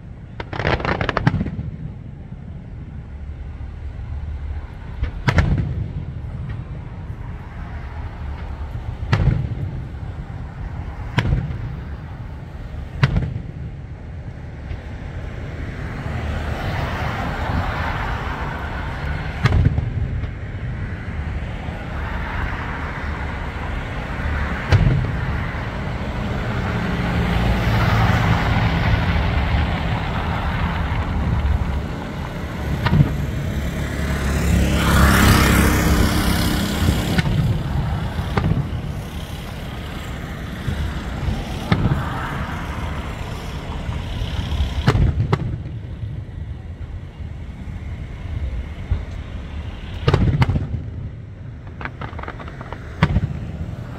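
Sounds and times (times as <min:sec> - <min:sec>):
fireworks booming: 0:00.0 - 0:15.4, 0:16.8 - 0:53.9
fireworks rumble and hiss: 0:00.0 - 0:53.9.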